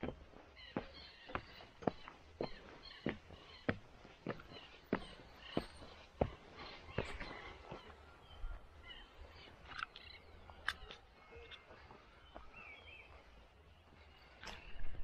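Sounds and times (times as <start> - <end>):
faint bird chirps: 0.6 - 15.0.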